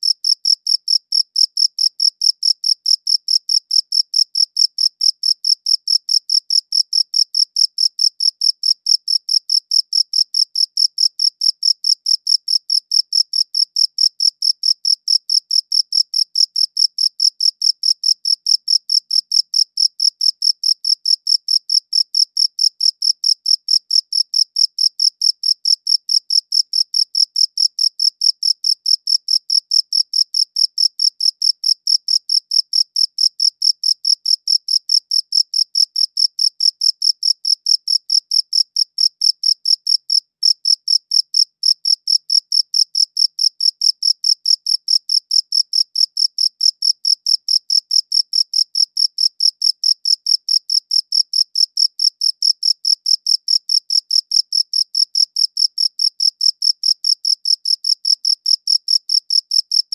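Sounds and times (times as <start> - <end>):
cricket chirping: 0.0 - 59.8.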